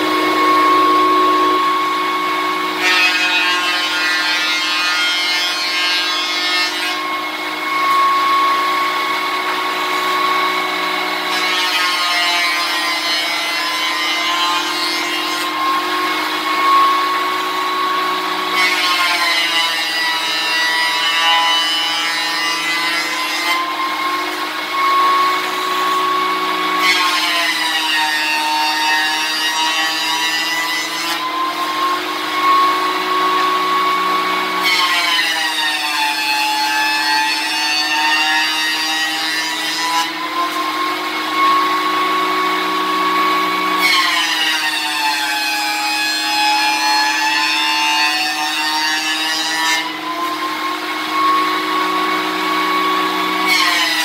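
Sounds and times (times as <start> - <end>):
jointer motor whine: 0.0 - 4.8, 5.6 - 18.8, 19.4 - 26.8, 28.9 - 34.6, 39.2 - 48.4, 49.9 - 53.5
hissing wood cutting: 0.0 - 54.0.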